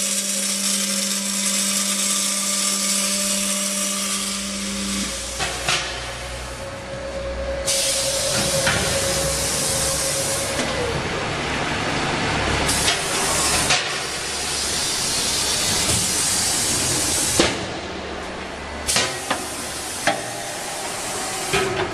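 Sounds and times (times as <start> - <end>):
loud steady hissing: 0.0 - 17.6.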